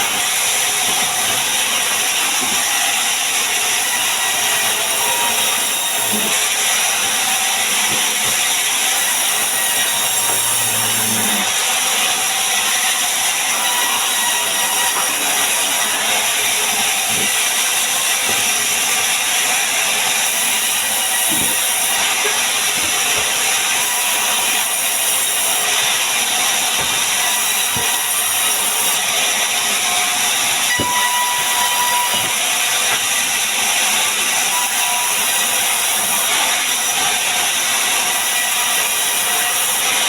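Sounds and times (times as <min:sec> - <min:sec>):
power tool cutting wood: 0:00.0 - 0:40.0.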